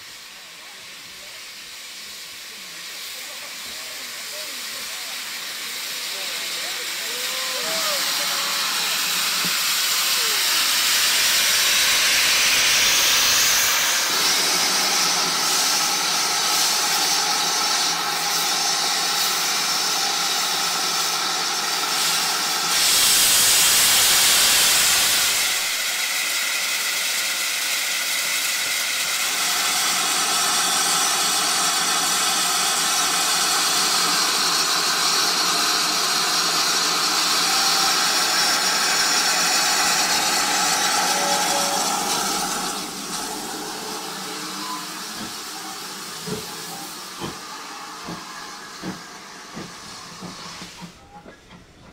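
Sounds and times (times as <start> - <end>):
steam hissing from locomotive: 0.0 - 51.4.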